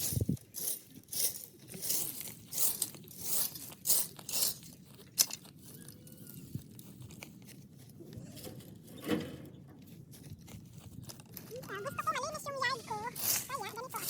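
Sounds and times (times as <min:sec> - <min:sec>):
dry sticks crunching and rustling: 0:00.0 - 0:09.0, 0:09.8 - 0:14.0.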